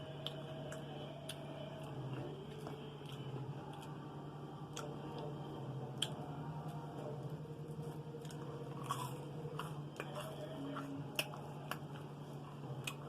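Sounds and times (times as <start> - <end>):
person chewing food: 0.0 - 13.0
steady low hum: 0.0 - 13.0.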